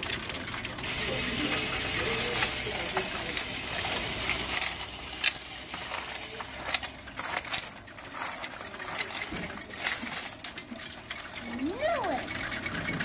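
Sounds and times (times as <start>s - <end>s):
coin machine clicks: 0.0s - 13.0s
coins clinking and rattling: 0.0s - 13.0s.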